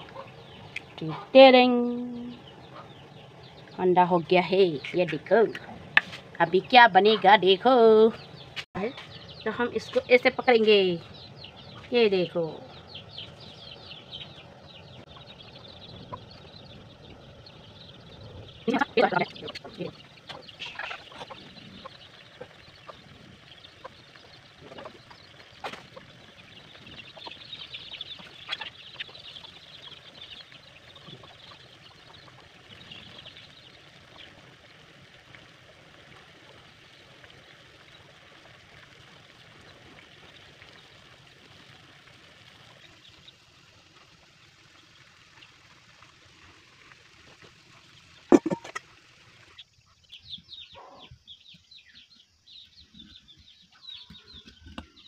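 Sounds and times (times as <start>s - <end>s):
water boiling in a pot: 0.0s - 51.3s.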